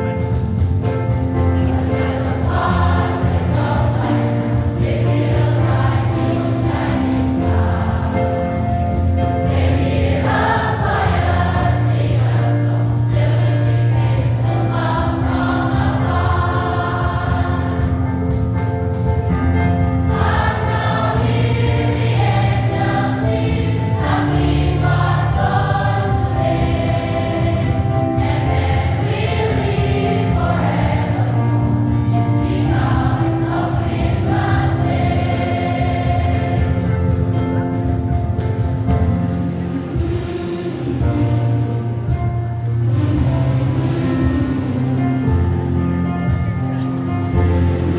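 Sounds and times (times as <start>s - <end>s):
school choir singing: 1.1s - 38.0s, 38.6s - 45.6s.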